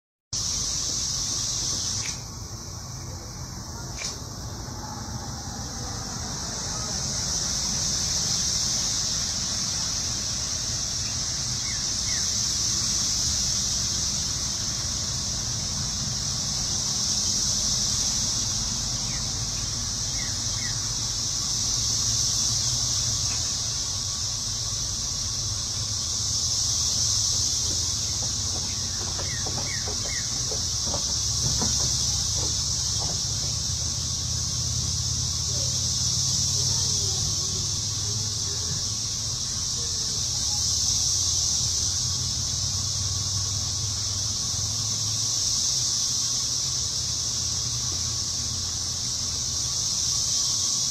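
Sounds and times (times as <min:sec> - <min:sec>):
high-pitched insect chorus: 0:00.4 - 0:50.9.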